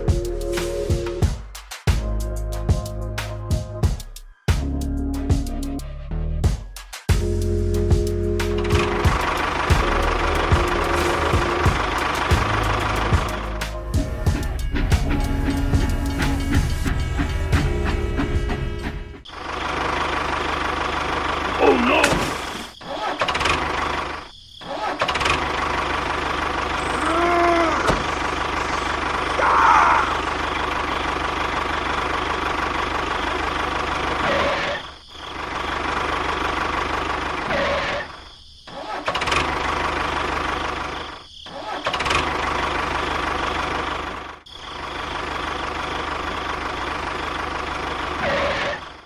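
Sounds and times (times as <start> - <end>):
tractor engine running: 7.2 - 38.2, 39.1 - 41.2, 41.8 - 49.0.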